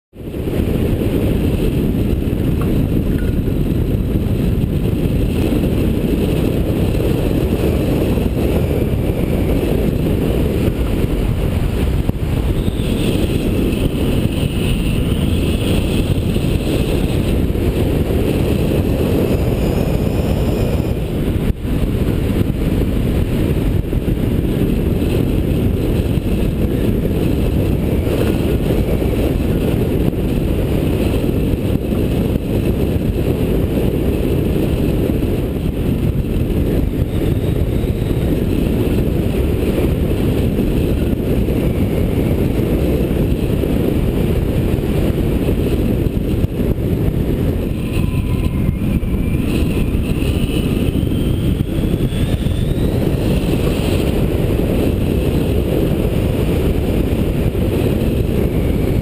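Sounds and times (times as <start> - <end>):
wind buffeting microphone: 0.1 - 59.0.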